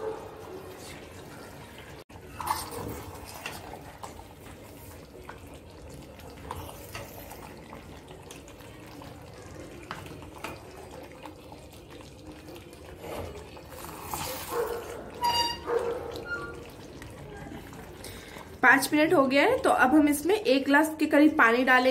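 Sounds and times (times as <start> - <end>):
curry sizzling and bubbling in pot: 0.0 - 21.9.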